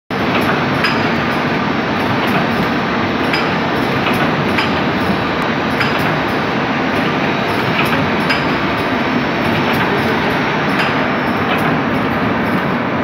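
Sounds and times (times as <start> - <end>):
production line machinery running: 0.1 - 13.0.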